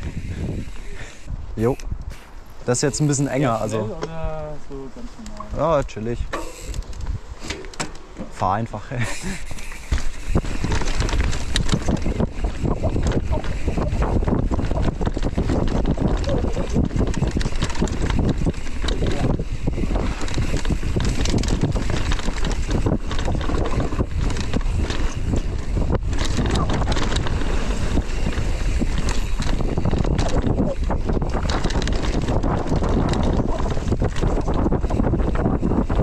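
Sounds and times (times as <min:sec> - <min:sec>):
wind rushing over microphone: 0:00.0 - 0:04.8, 0:08.3 - 0:36.0
bike knocks and rattles: 0:06.2 - 0:08.6, 0:09.5 - 0:36.0.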